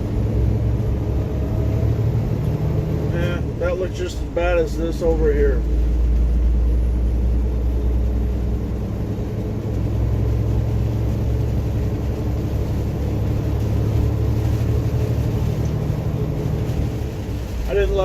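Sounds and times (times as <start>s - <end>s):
engine drone: 0.0s - 18.0s
road noise on wet road: 0.0s - 18.0s.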